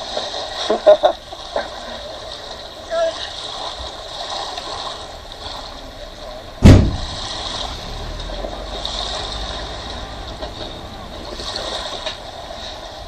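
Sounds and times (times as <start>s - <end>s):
jet ski engines rumbling: 0.7s - 13.0s.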